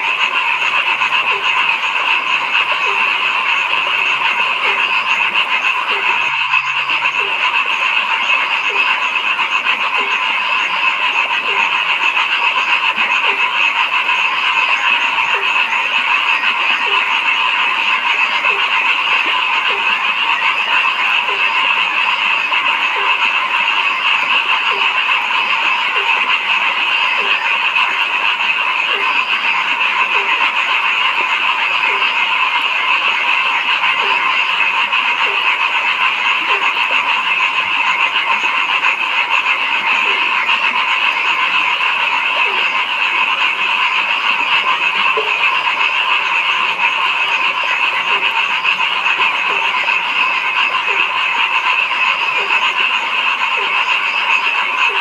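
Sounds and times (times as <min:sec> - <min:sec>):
frog chorus trilling: 0:00.0 - 0:55.0
low frog croak: 0:00.0 - 0:55.0.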